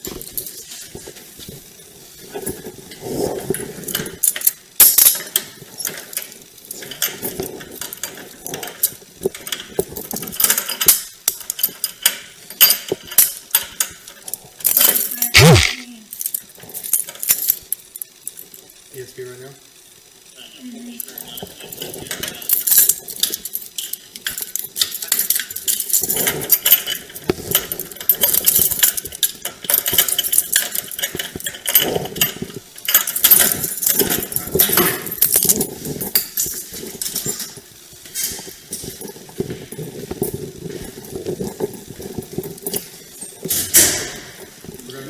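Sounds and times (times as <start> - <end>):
metallic jingling and clinking: 3.4 - 18.9, 21.0 - 45.0.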